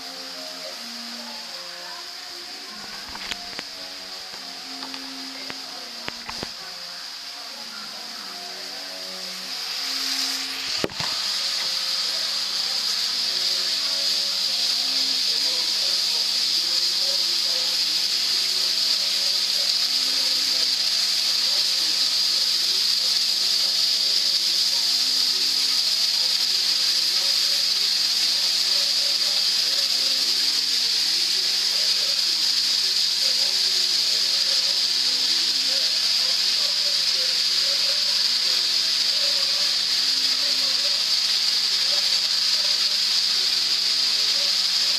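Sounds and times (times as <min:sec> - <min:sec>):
meat sizzling in a frying pan: 0:00.0 - 0:44.9.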